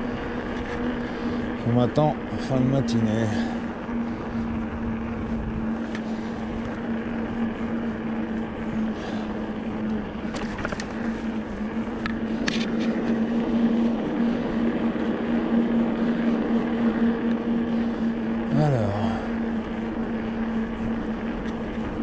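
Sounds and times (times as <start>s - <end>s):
electric bike motor whining: 0.0s - 22.0s
wind: 0.0s - 22.0s.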